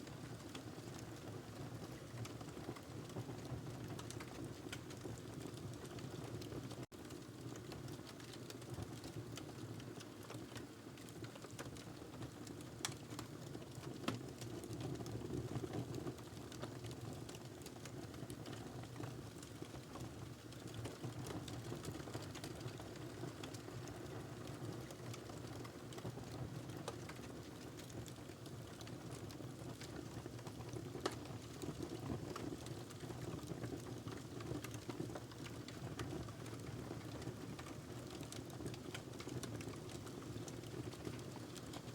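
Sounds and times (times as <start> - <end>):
fire crackling and popping: 2.0 - 41.9.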